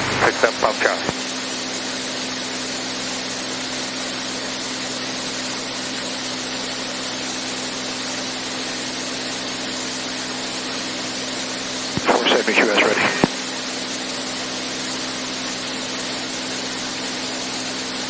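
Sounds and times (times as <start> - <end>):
airplane engine and propeller hum: 0.0 - 18.0.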